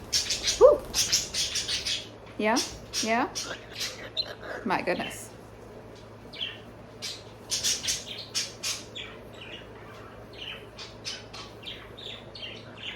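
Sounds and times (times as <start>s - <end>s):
birds chirping and squawking: 0.0s - 5.4s, 6.0s - 12.9s.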